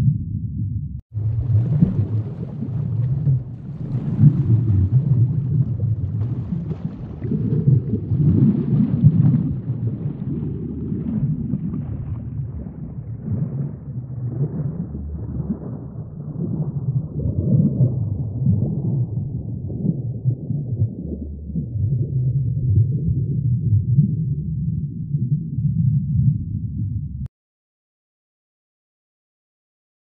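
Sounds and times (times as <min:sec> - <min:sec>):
muffled rumble of sea water: 0:00.0 - 0:27.3.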